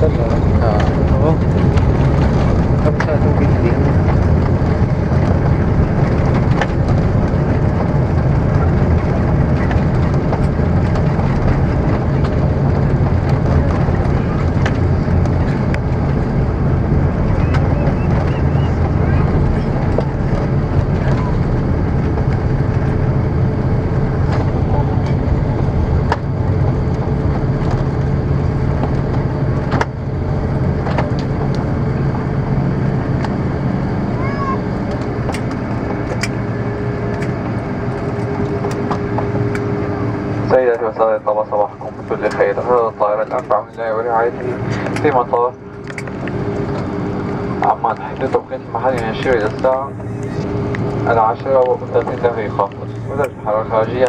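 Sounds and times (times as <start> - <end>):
airplane cabin rumble: 0.0 - 54.0
faint rattles: 0.0 - 54.0.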